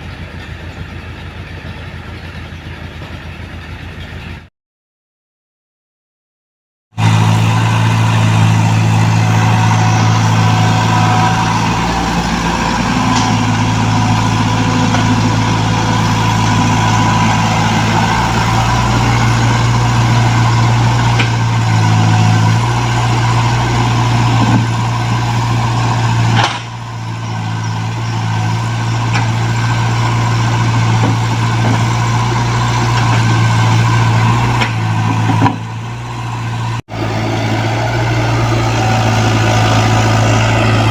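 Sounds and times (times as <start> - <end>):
excavator diesel engine running: 0.0 - 4.5, 7.0 - 40.9.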